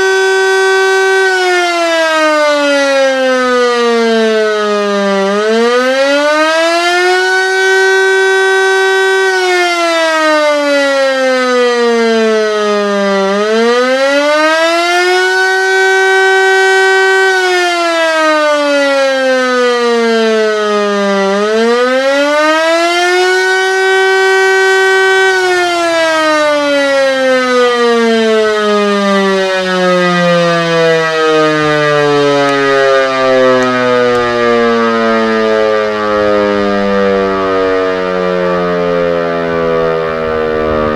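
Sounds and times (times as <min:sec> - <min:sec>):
motor siren wailing: 0:00.0 - 0:40.9.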